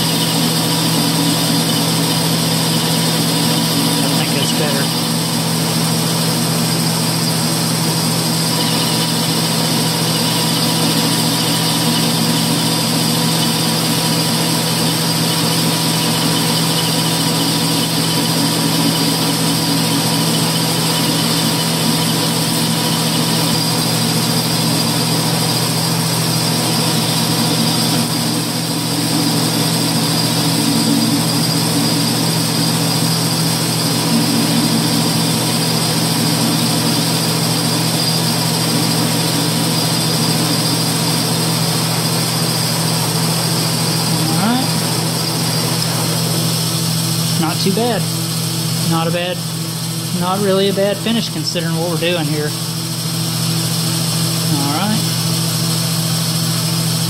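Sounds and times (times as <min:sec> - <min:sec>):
hiss of cutting and coolant: 0:00.0 - 0:57.0
lathe machine hum: 0:00.0 - 0:57.0.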